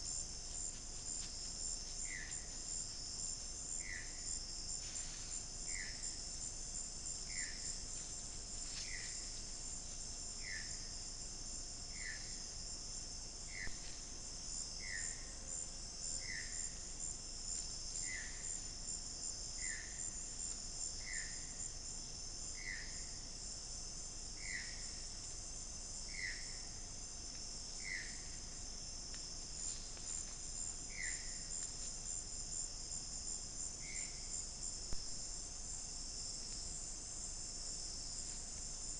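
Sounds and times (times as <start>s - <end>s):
crickets and insects chorus: 0.0s - 38.9s.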